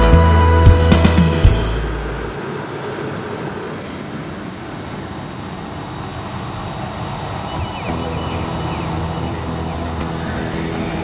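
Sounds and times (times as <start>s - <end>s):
propeller airplane cabin noise: 0.0s - 11.0s.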